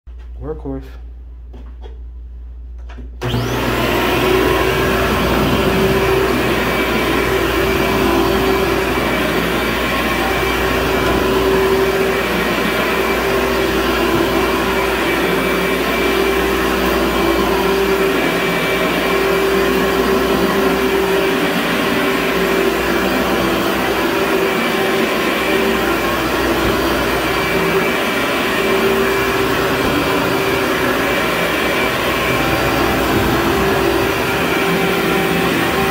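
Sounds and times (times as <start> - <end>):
vacuum cleaner running: 3.2 - 35.9.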